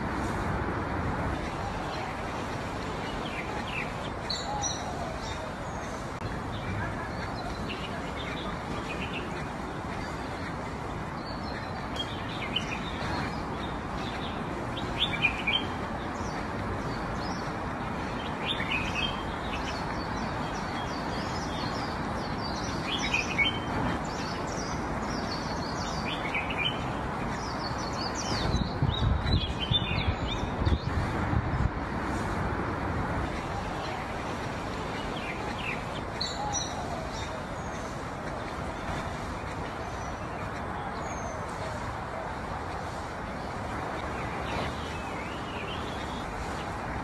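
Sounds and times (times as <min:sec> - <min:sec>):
small birds chirping: 0:00.0 - 0:47.0
steady background hiss: 0:00.0 - 0:47.0.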